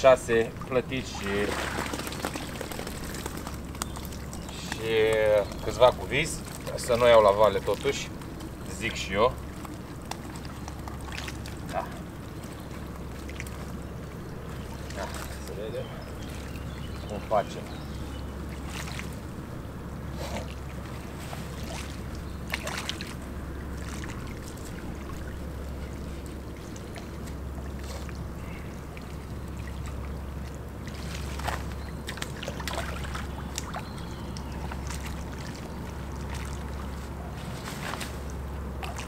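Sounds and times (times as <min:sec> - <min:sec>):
water splashing and dripping: 0:00.0 - 0:19.5, 0:20.4 - 0:37.2, 0:38.2 - 0:39.0.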